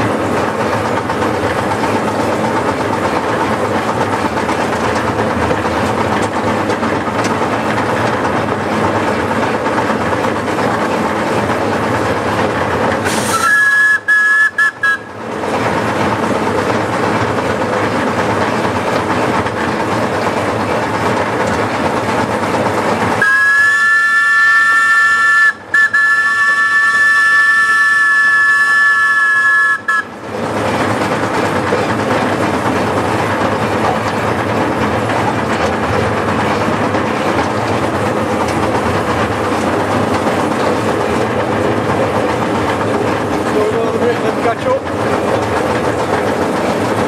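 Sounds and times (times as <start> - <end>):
miniature steam locomotive running: 0.0 - 47.0.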